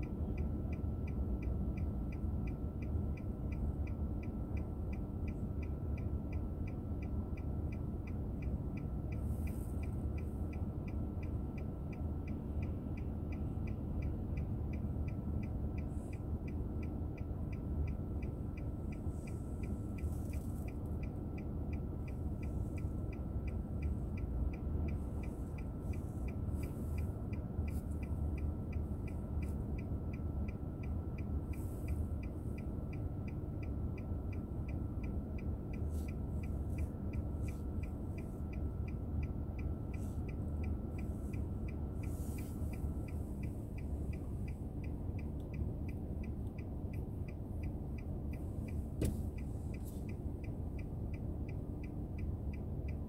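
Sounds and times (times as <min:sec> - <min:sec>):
car interior rumble: 0:00.0 - 0:53.0
faint steady whine: 0:00.0 - 0:53.0.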